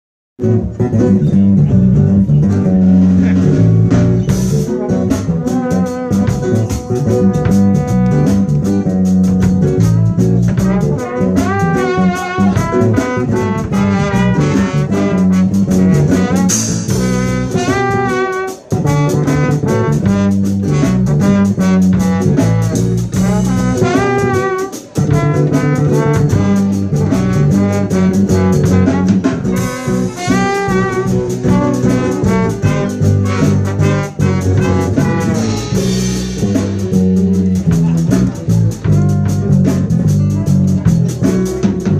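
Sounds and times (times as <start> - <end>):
live jazz band playing: 0.4 - 41.9.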